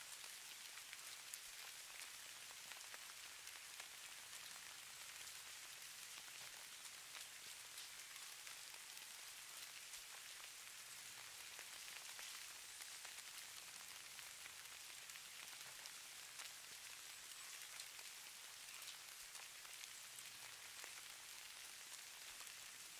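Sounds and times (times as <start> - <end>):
soft patter of falling snow: 0.0 - 22.9.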